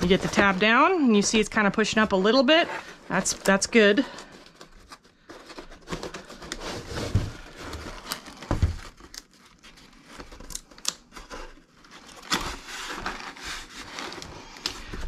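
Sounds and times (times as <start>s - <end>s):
cardboard scraping and rustling: 0.0s - 15.0s
paper packing shifting: 0.0s - 15.0s.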